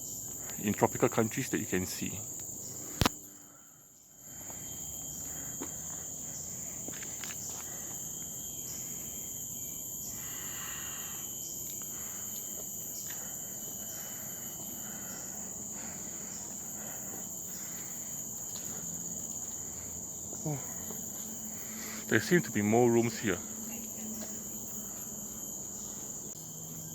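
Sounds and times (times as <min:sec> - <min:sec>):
insects shrilling chorus: 0:00.0 - 0:26.9.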